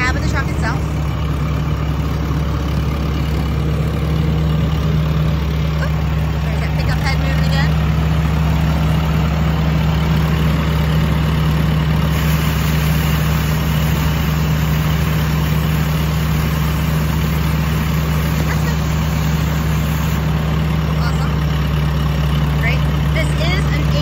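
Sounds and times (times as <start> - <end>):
street sweeper engine hum: 0.0 - 24.0.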